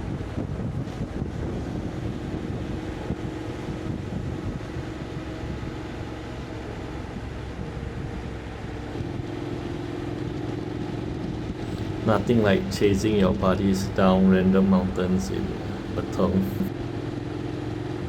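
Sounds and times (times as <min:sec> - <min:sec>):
wind buffeting microphone: 0:00.0 - 0:14.7
motorcycle engine running: 0:00.0 - 0:18.0.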